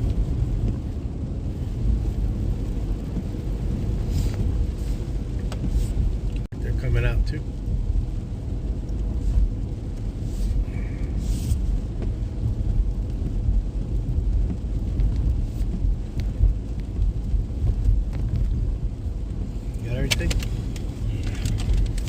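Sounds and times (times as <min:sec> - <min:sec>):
car driving on wet road: 0:00.0 - 0:22.0
rain noise: 0:00.0 - 0:22.0.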